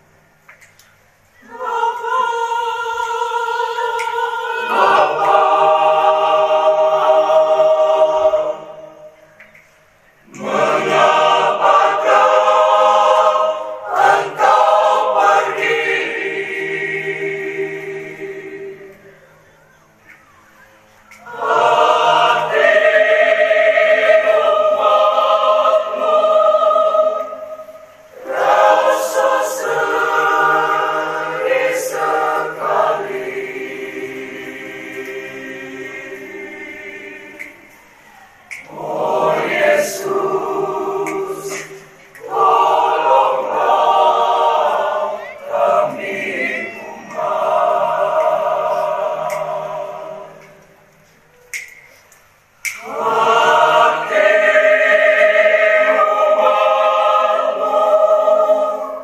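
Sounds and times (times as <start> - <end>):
group singing a hymn: 1.4 - 19.5, 21.1 - 59.0.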